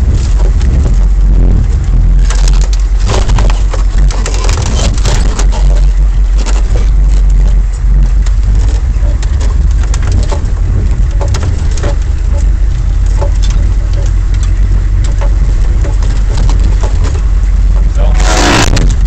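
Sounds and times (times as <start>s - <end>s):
diesel engine low rumble: 0.0s - 19.0s
vehicle body rattling and knocking: 0.0s - 19.0s.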